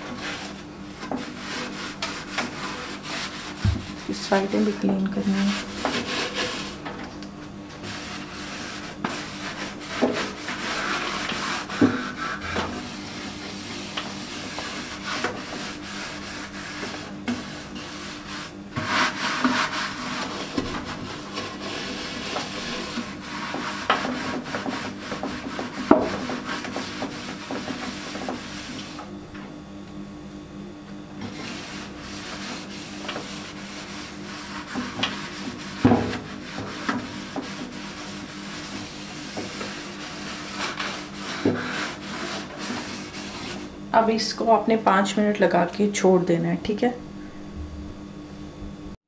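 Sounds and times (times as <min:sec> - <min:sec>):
sponge scrubbing microwave: 0:00.0 - 0:29.5, 0:30.6 - 0:47.9.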